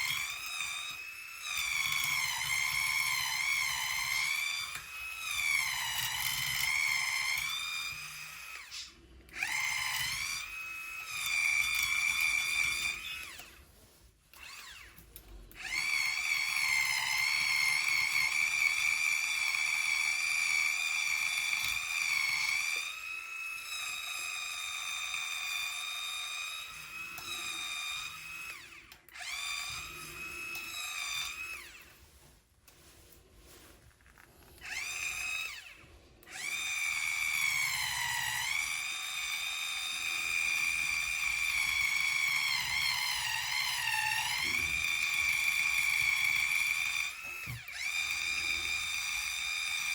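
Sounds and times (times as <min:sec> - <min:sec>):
small motor tool whining: 0:00.0 - 0:49.9.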